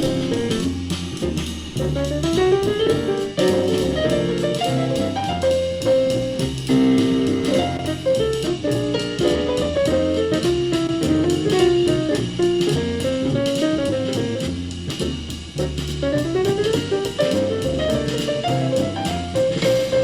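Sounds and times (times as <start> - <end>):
jazz band through speaker: 0.0 - 20.0.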